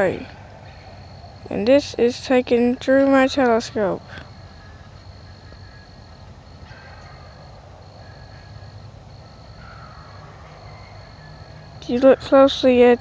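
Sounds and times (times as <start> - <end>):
faint short insect calls: 0.0 - 13.0
insects trilling: 0.0 - 13.0.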